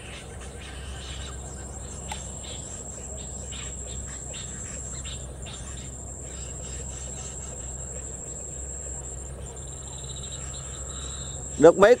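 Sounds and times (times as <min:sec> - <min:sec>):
short raspy chirps: 0:00.0 - 0:11.7
crickets trilling: 0:00.0 - 0:12.0
low steady rumble: 0:00.0 - 0:12.0.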